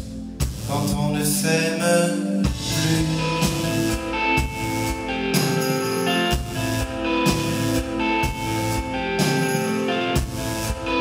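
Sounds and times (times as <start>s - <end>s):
electric bass: 0.0s - 1.5s, 2.4s - 11.0s
live pop band instrumental: 0.0s - 11.0s.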